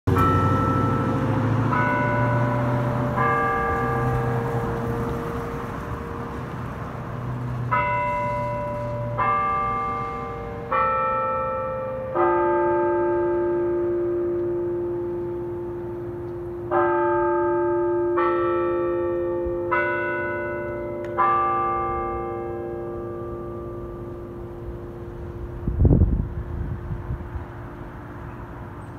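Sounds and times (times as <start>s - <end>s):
church bells chiming a tune: 0.1s - 28.9s.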